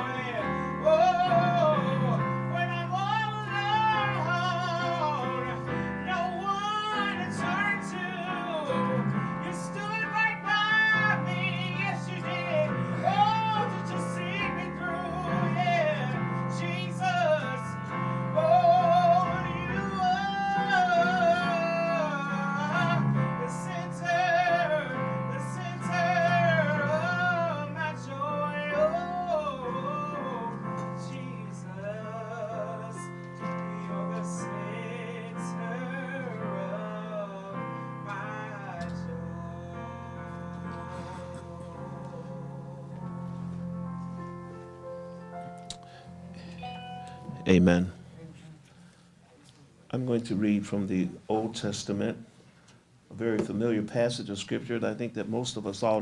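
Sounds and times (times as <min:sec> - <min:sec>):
instrumental accompaniment: 0:00.0 - 0:49.5.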